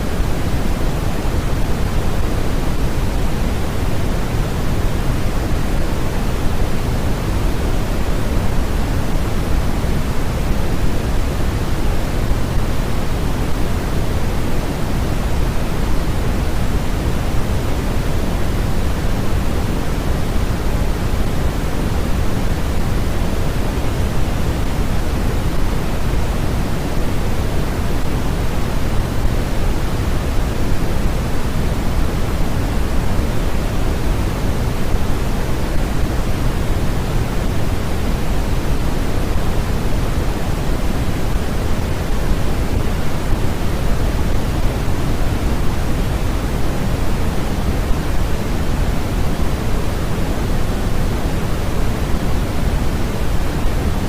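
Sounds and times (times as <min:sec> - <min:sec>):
synthetic pink noise hiss: 0:00.0 - 0:54.0.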